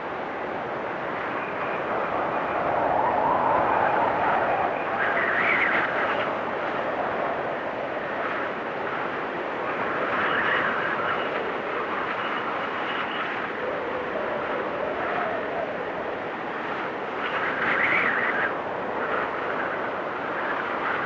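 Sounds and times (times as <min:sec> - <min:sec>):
blizzard wind gusting: 0:00.0 - 0:21.0.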